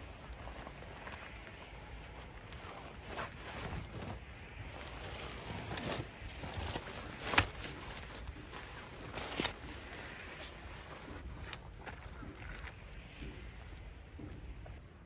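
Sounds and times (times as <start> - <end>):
rustling and handling noises: 0.0 - 14.8.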